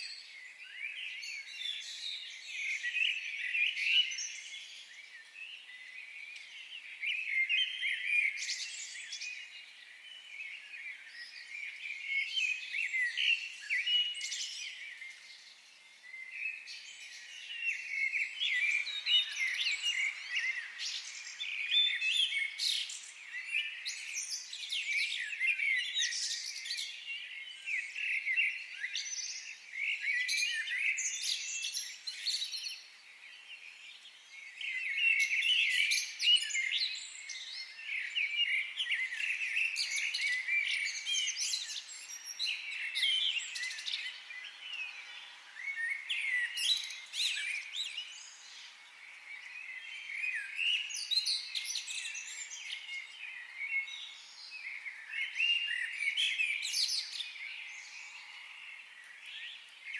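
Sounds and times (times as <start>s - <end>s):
birds chirping and trilling: 0.3s - 59.9s.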